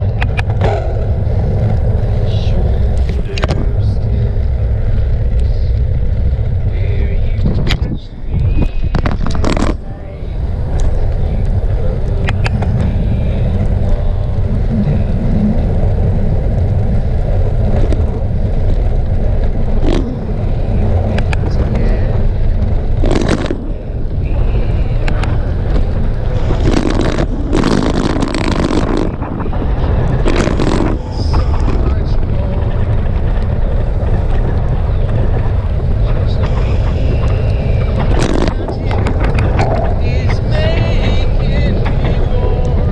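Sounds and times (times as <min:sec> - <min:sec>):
vehicle rumble: 0:00.0 - 0:42.9
wind on microphone: 0:00.0 - 0:42.9.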